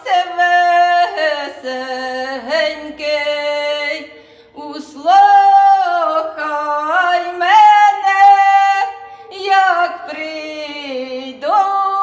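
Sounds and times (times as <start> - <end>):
women singing unaccompanied: 0.0 - 12.0.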